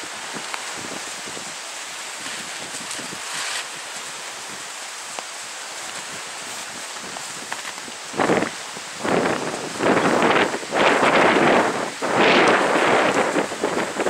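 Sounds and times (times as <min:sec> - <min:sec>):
wind hissing: 0:00.0 - 0:14.0.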